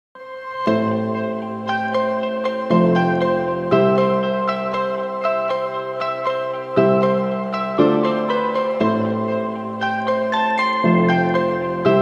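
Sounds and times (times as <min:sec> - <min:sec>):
gentle plucked instrumental music: 0:00.2 - 0:12.0.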